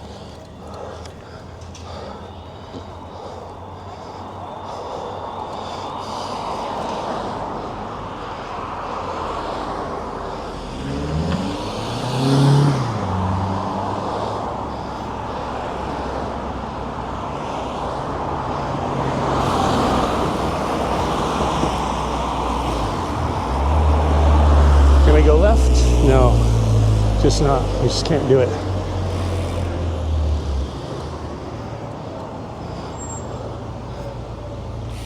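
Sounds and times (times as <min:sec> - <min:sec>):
city road traffic: 0:00.0 - 0:35.0
vehicle engine accelerating: 0:06.5 - 0:35.0.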